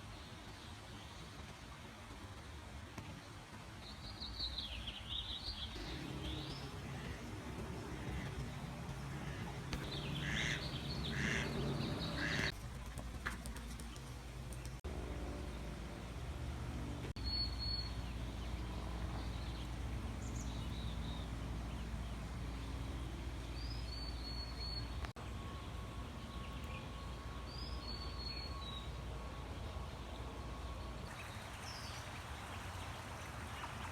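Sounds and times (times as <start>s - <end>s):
low outdoor rumble: 5.2s - 33.9s.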